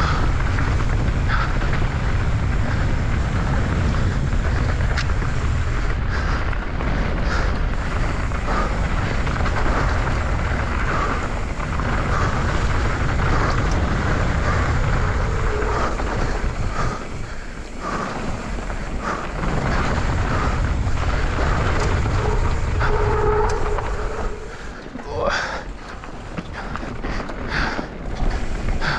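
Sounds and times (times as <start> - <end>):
bike rattling: 0.0 - 28.9
tyres running over dirt: 0.0 - 28.9
wind rushing over microphone: 0.0 - 28.9.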